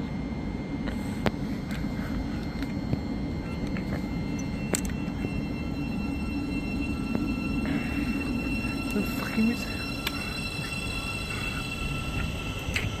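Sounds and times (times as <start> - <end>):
faint electric whines: 0.0 - 13.0
wheels rumbling on rail: 1.0 - 13.0.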